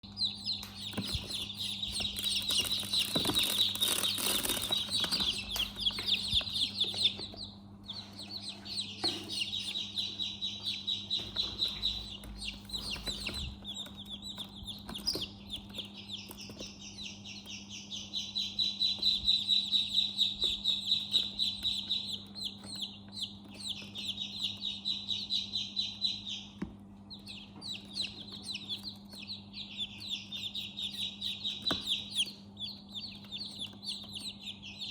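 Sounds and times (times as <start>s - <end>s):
chicks peeping: 0.0s - 34.9s
steady low hum: 0.0s - 34.9s.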